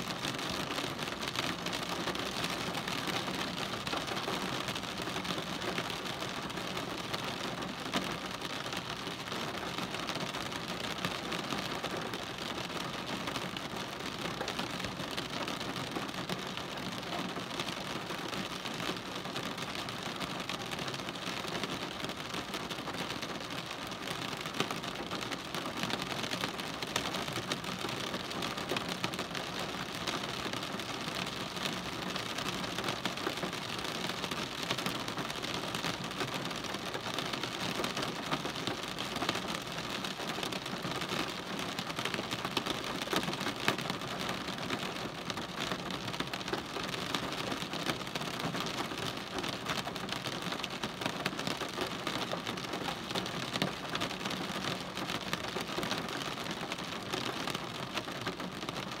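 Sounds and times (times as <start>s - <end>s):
rain on car roof: 0.0s - 59.0s.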